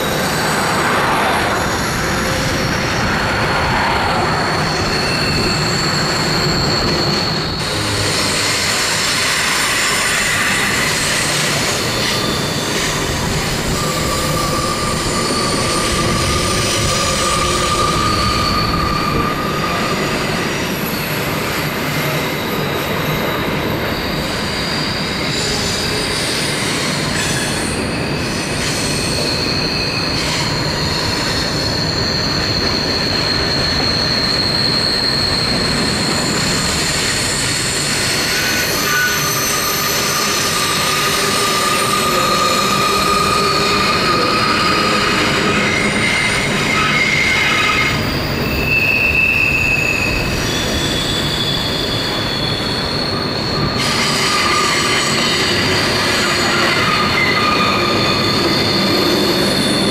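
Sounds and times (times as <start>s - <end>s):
high-pitched wheel squeal: 0.0s - 59.9s.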